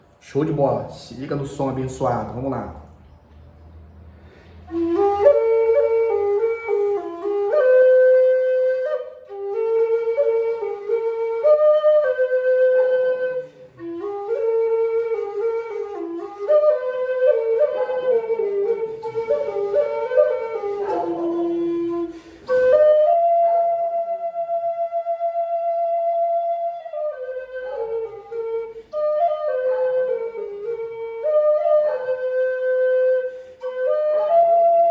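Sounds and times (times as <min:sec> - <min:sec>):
flute melody: 0:04.7 - 0:34.9.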